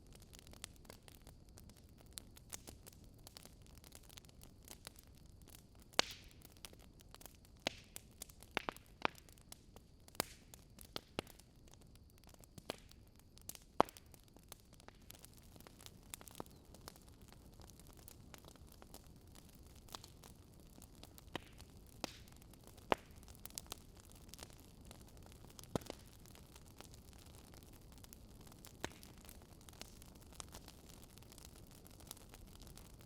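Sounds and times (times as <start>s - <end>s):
burning logs crackling: 0.0s - 33.0s
faint steady hiss: 0.0s - 33.0s.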